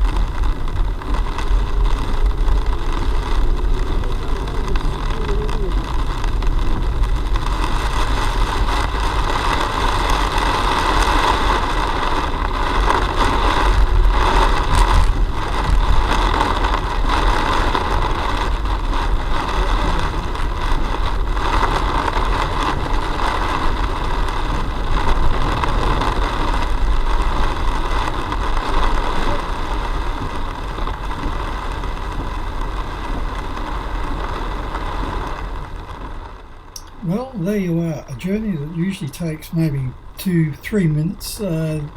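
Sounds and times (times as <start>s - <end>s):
car engine and road rumble: 0.0s - 41.9s
continuous rushing noise: 0.0s - 41.9s.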